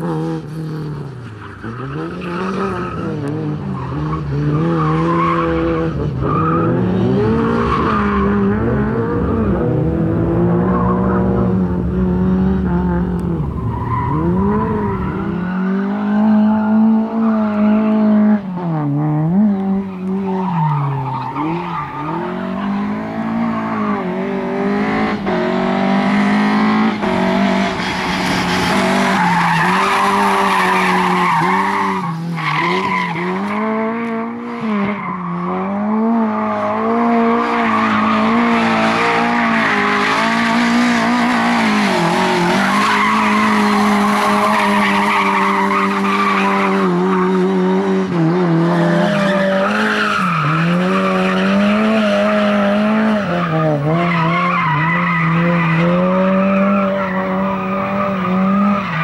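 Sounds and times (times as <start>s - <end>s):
car engine at high revs: 0.0s - 59.0s
tyres skidding on concrete: 1.1s - 12.0s, 19.3s - 33.6s, 36.3s - 59.0s.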